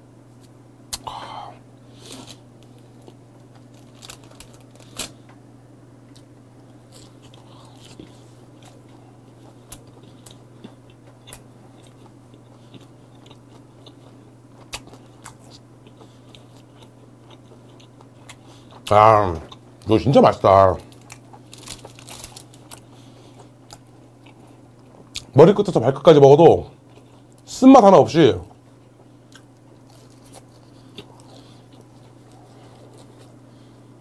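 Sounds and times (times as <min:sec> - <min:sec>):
steady low hum: 0:00.0 - 0:34.0
crunching and chewing fish: 0:02.0 - 0:05.3, 0:06.1 - 0:20.1, 0:20.7 - 0:25.4, 0:26.8 - 0:27.5, 0:28.4 - 0:33.9.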